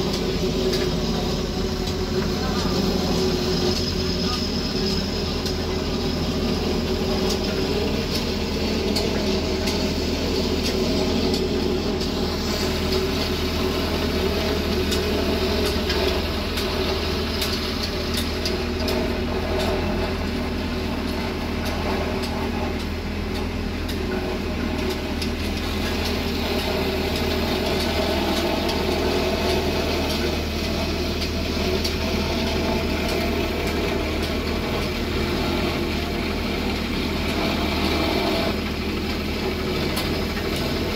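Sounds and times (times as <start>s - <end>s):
road roller engine droning: 0.0s - 40.9s.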